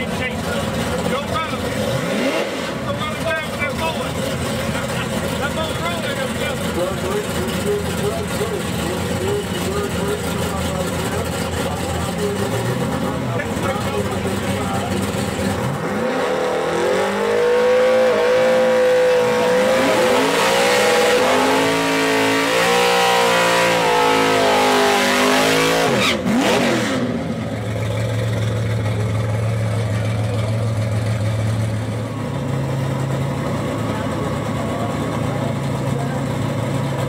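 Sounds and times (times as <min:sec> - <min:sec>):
car engine idling: 0:00.0 - 0:22.0, 0:27.0 - 0:37.0
car engine revving: 0:00.0 - 0:37.0.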